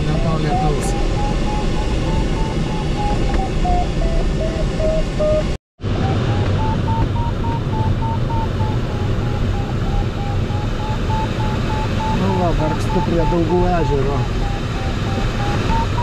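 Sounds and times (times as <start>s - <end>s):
cockpit airflow noise: 0.0s - 16.0s
variometer beeping pips: 0.0s - 16.0s.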